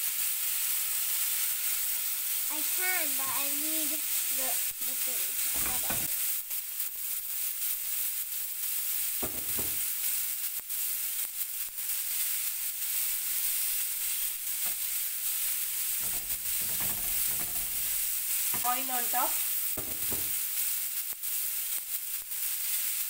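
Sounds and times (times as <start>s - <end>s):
prawns sizzling in hot oil: 0.0s - 23.0s.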